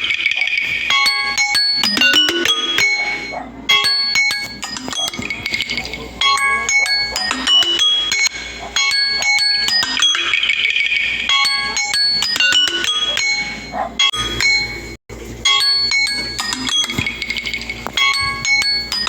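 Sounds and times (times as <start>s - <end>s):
phone alarm chime melody: 0.0s - 19.0s.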